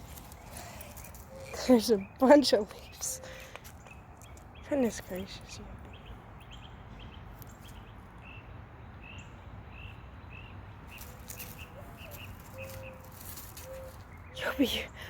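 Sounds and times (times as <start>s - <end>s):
small bird chirping: 0.2s - 15.0s.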